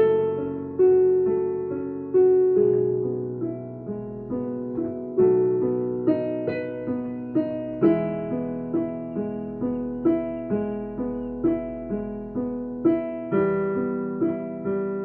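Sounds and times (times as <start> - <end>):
piano playing a tune: 0.0 - 15.0.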